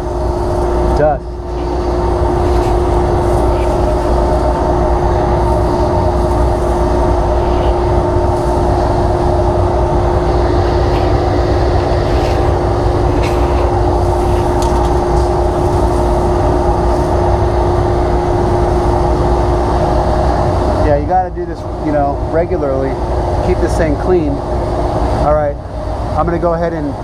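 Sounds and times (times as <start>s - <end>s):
dust collector humming: 0.0s - 27.0s.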